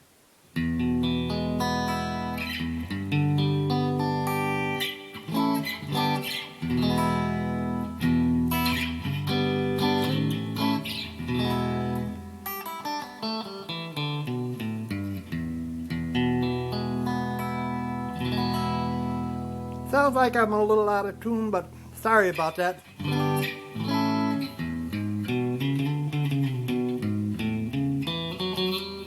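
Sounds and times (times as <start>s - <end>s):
electric guitar chords and single notes: 0.6s - 29.0s.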